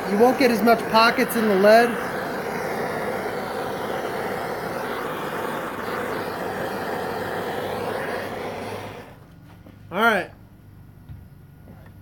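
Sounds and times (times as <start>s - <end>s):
propane torch burning: 0.0s - 10.0s.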